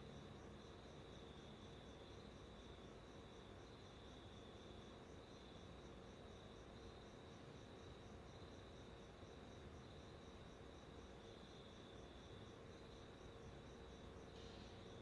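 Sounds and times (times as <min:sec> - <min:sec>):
low hiss: 0:00.0 - 0:15.0
steady insect trill: 0:00.0 - 0:15.0.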